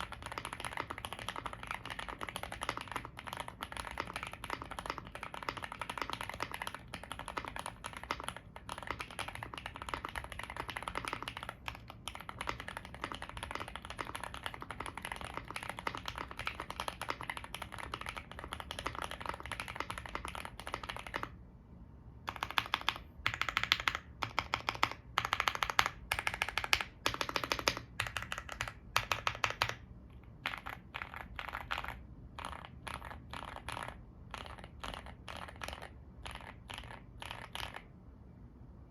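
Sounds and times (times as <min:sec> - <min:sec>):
mechanical keyboard typing: 0:00.0 - 0:21.4, 0:22.3 - 0:37.9.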